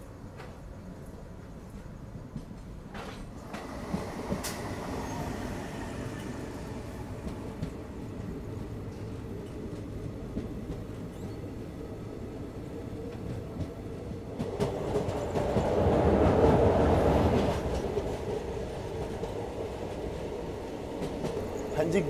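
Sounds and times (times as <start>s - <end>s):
train rumble from aboard: 0.0s - 22.0s.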